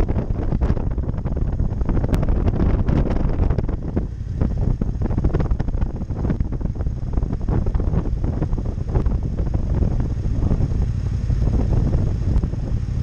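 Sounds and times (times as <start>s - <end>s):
motorcycle engine at low speed: 0.0s - 13.0s
wind buffeting microphone: 0.0s - 13.0s.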